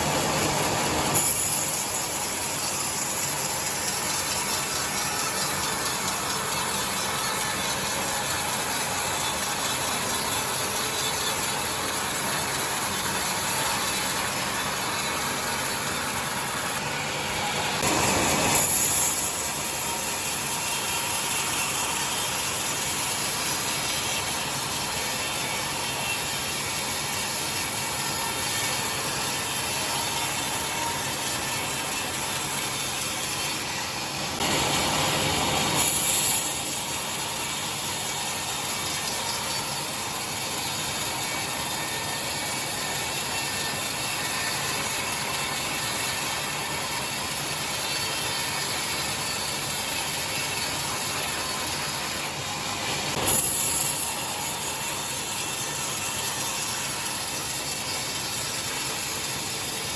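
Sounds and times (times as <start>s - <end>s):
sawmill saw ripping timber: 0.0s - 59.9s.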